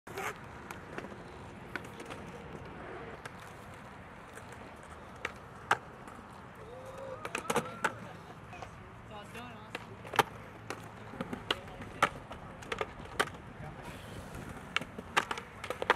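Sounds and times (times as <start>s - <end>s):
skateboard wooden clacks: 0.1s - 15.9s
skateboards rolling on concrete: 0.1s - 15.9s.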